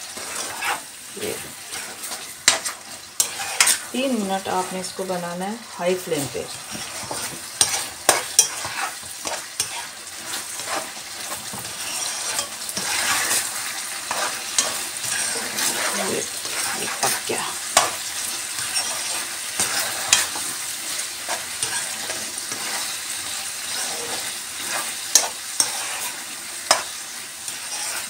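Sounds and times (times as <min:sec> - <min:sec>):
food sizzling in frying pan: 0:00.0 - 0:28.0
spatula scraping pan: 0:00.0 - 0:28.0.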